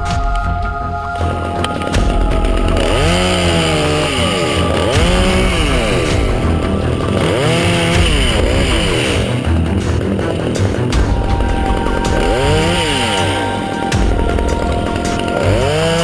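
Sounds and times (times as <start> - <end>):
background music: 0.0 - 16.0
chainsaw engine revving: 1.2 - 16.0.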